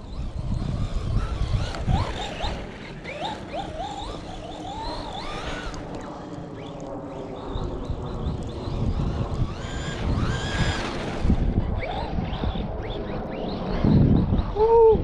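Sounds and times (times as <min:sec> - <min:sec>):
electric motor whining: 0:00.0 - 0:14.6.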